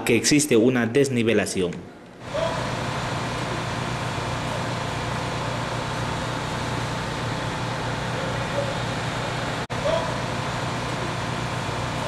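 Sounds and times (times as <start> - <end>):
street noise: 1.9 - 12.0
vehicle engine hum: 2.2 - 12.0.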